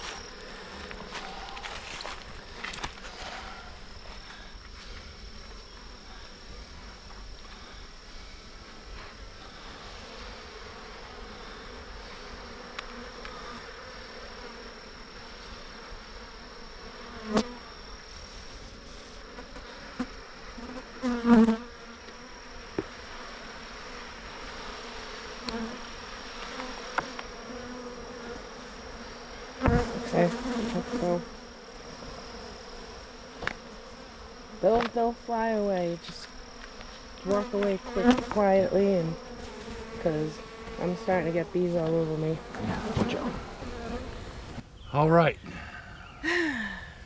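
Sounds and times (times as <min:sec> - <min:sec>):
bees buzzing: 0:00.0 - 0:44.6.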